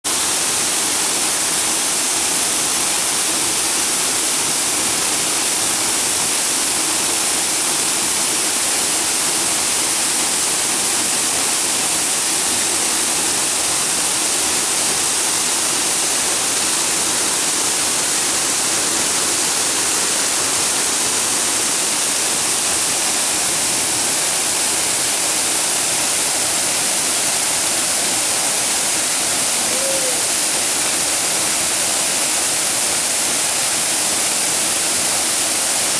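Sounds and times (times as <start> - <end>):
waterfall rushing: 0.1 - 35.9.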